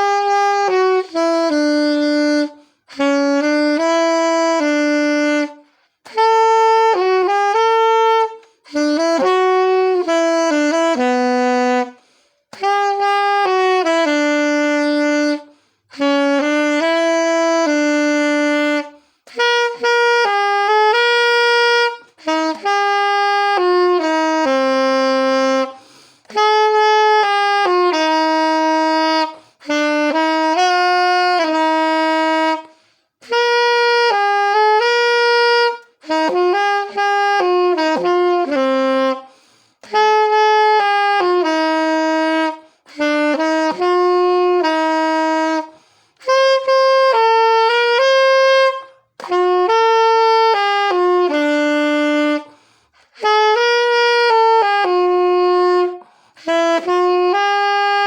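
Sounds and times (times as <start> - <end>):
solo saxophone melody: 0.0 - 58.0.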